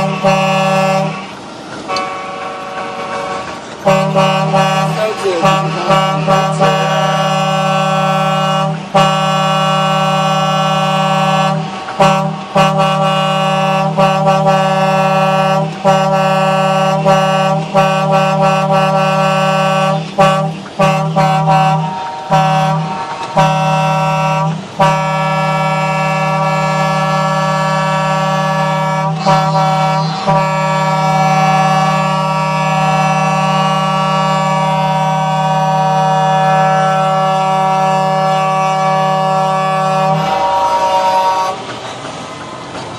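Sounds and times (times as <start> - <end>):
truck air horns chord: 0.0 - 41.7.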